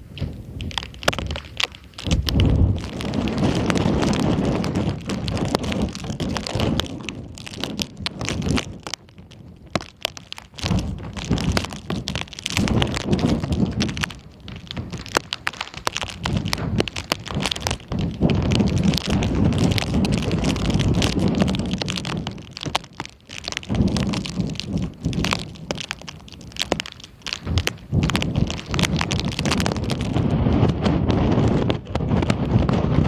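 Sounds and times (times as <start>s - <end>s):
sharp crackles and ticks: 0.0s - 33.0s
wind buffeting microphone: 0.0s - 33.0s.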